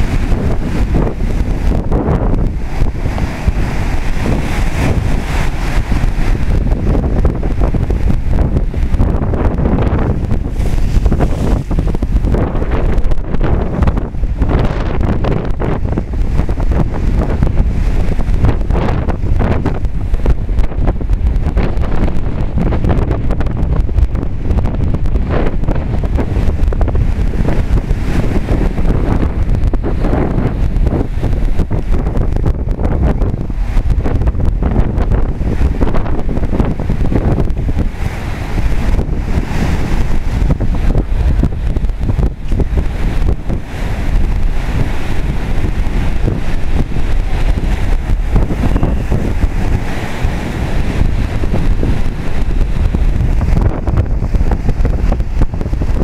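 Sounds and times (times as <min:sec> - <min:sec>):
gale wind buffeting microphone: 0:00.0 - 0:56.0
storm surf washing in: 0:00.0 - 0:56.0.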